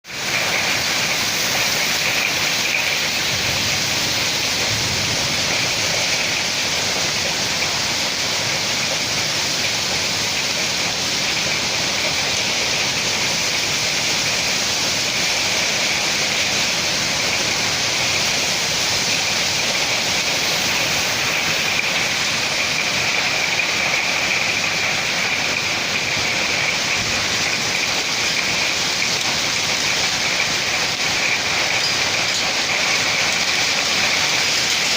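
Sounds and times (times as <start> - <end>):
heavy rain: 0.0 - 34.9
wind: 0.0 - 34.9.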